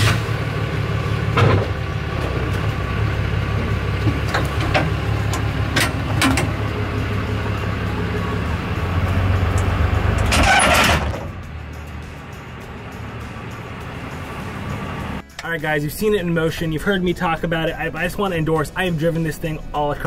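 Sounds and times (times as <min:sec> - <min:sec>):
pickup truck engine running: 0:00.0 - 0:20.0.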